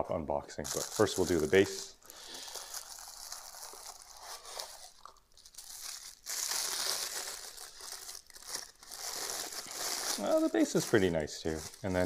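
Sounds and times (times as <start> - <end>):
plastic wrapping crinkling: 0.6 - 12.0.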